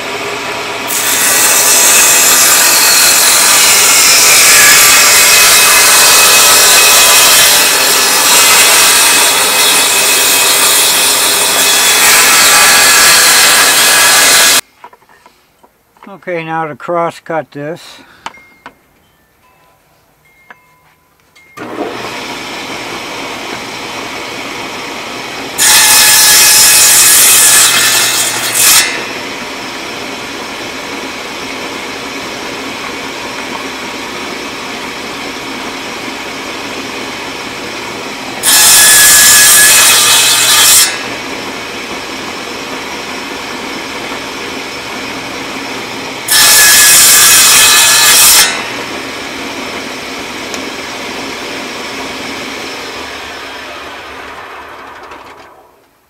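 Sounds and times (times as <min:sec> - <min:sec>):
saw blade cutting wood: 0:00.0 - 0:14.6, 0:21.6 - 0:55.8
table saw running: 0:00.0 - 0:14.6, 0:21.6 - 0:56.0.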